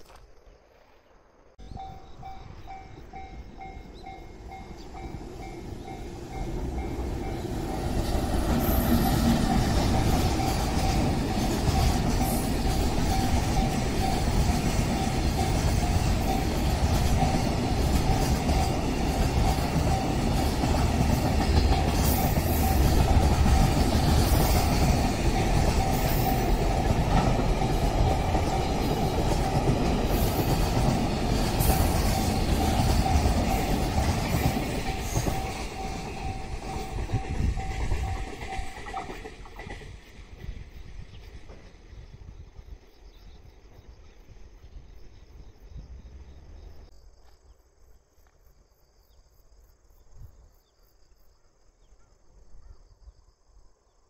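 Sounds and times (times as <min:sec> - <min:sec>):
freight train rumbling: 0:01.6 - 0:46.9.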